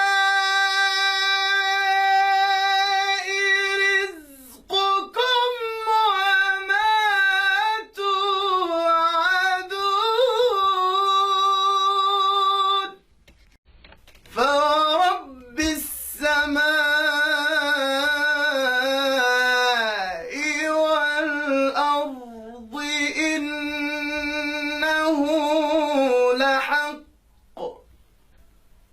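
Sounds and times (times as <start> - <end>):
man chanting melodically: 0.0 - 13.0, 14.4 - 27.9.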